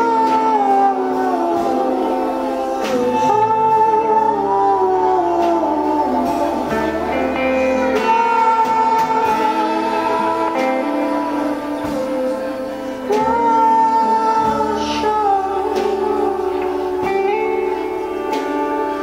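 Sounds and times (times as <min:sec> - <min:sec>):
person singing long notes: 0:00.0 - 0:19.0
plucked acoustic guitar: 0:00.0 - 0:19.0.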